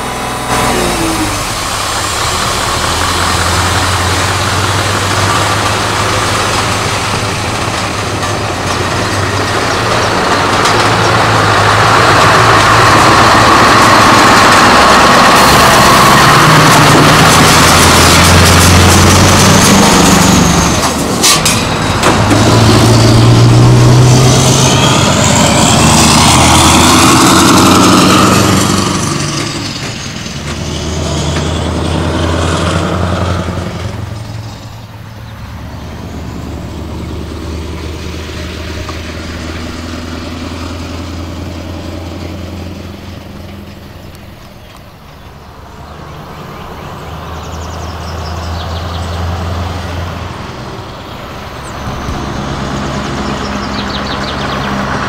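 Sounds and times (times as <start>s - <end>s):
diesel truck engine passing: 0.0s - 55.0s.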